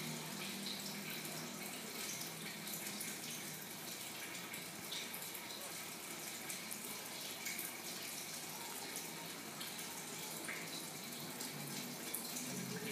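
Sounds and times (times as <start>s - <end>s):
water trickling in aquarium: 0.0s - 12.9s.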